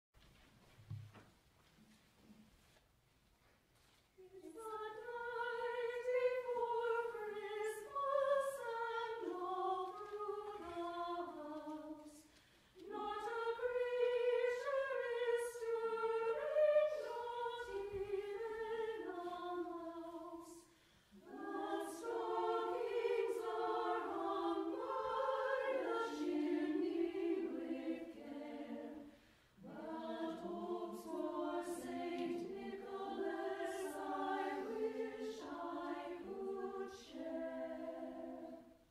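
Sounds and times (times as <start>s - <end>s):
mixed choir singing a cappella: 4.2s - 38.9s.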